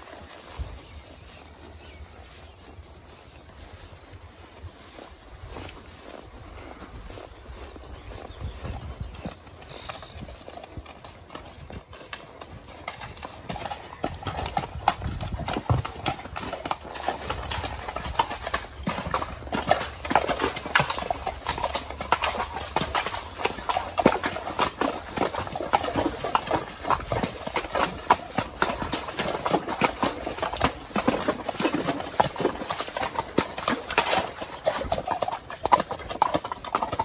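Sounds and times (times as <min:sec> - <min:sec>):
horse hooves clopping on rocky trail: 0:00.0 - 0:37.0.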